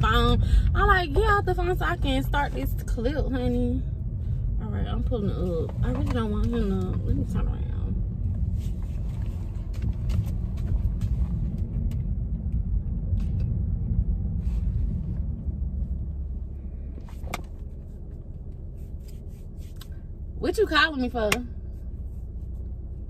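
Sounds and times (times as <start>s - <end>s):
car road rumble from inside: 0.0s - 23.0s.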